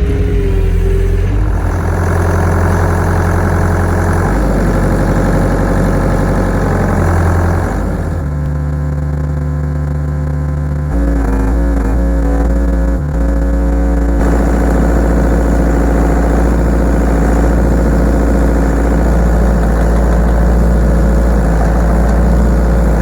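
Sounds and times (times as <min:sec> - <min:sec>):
excavator diesel engine under load: 0:00.0 - 0:23.0.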